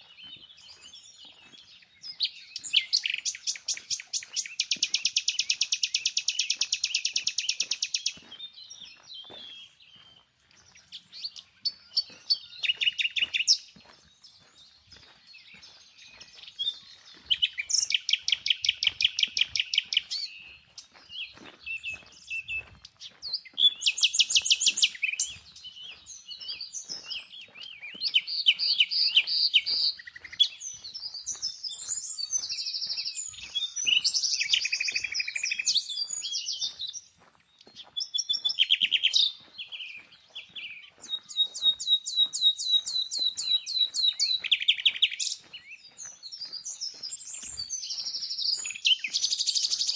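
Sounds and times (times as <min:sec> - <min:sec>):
songbirds trilling and chirping: 0:00.0 - 0:49.9.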